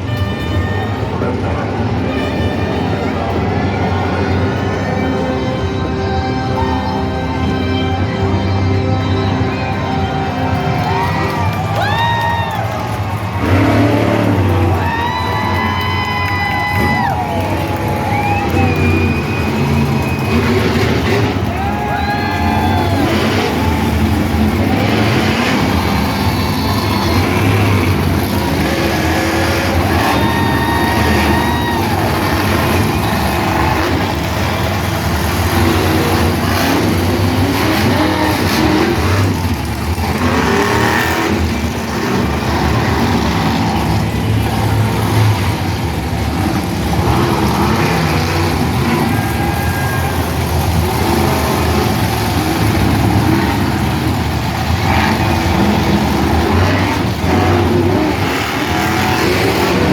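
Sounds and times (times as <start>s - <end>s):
monster truck engines revving: 0.0s - 59.9s.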